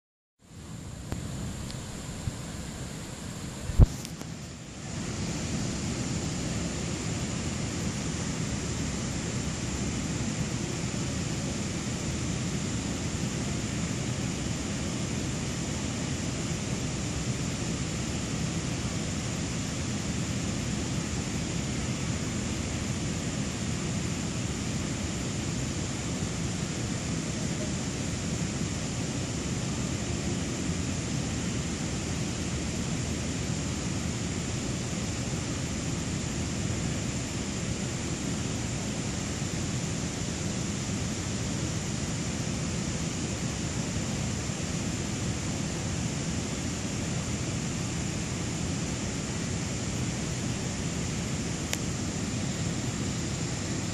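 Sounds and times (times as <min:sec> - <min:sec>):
low background noise: 0:00.4 - 0:53.9.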